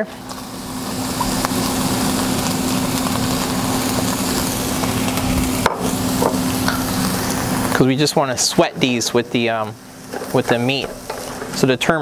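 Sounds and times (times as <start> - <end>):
meat and vegetables sizzling: 0.0 - 12.0.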